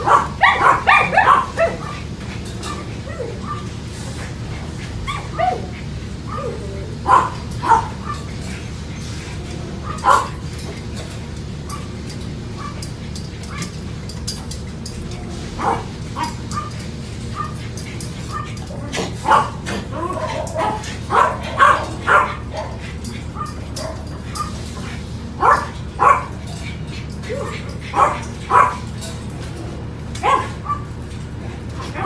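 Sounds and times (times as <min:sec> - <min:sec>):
puppies yipping and barking: 0:00.0 - 0:32.0
steady low hum: 0:00.0 - 0:32.0.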